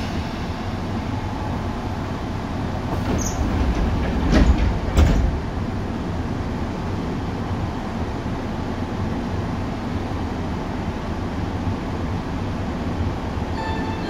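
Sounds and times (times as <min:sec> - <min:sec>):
electric train wheels rumbling: 0:00.0 - 0:14.0.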